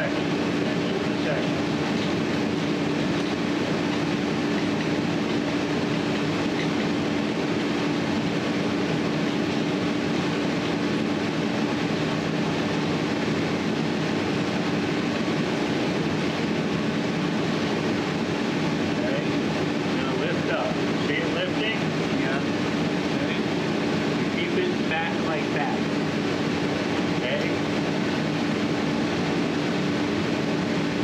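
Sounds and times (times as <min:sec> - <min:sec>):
steady mechanical drone: 0:00.0 - 0:31.0.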